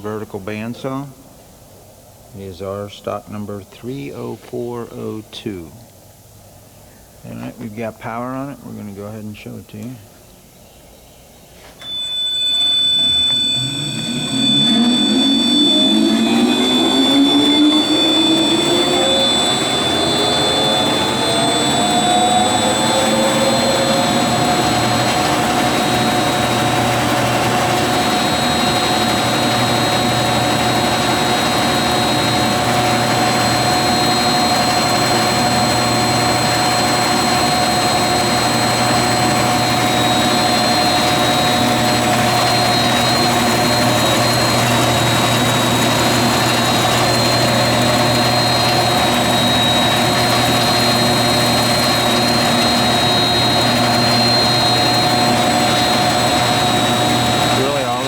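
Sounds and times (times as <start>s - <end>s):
band saw whine and hum: 0.0s - 6.6s, 11.3s - 58.0s.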